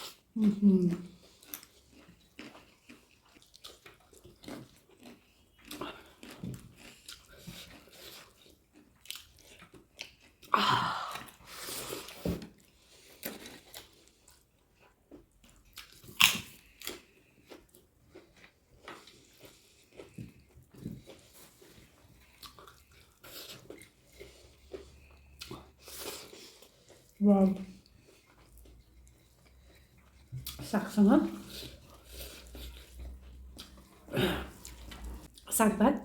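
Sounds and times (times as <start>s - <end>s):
person chewing food: 0.0s - 35.4s.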